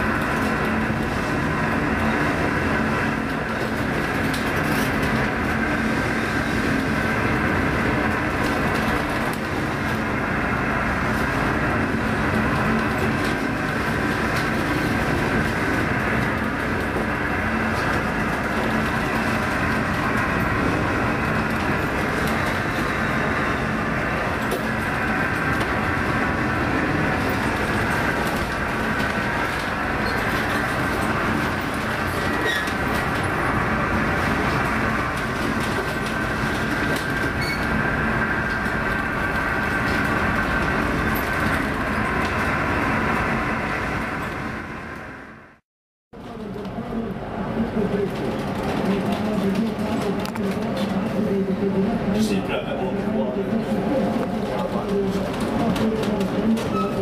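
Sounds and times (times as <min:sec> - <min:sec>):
ship machinery rumbling and rattling: 0:00.0 - 0:45.6, 0:46.2 - 0:57.0.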